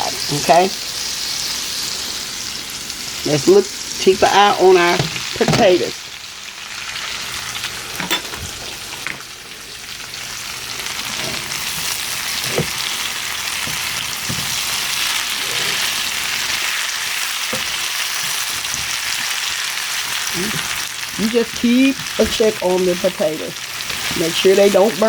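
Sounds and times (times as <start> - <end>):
potatoes sizzling in a skillet: 0.0 - 25.0.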